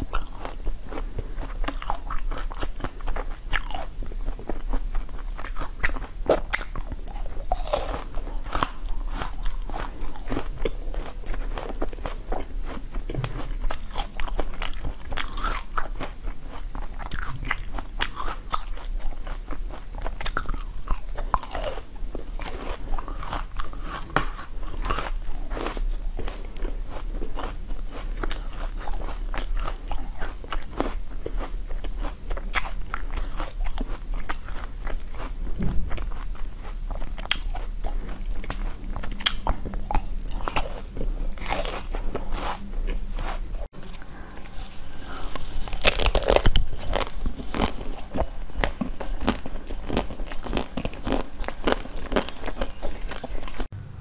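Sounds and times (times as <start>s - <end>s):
person chewing crunchy food: 0.0s - 53.8s.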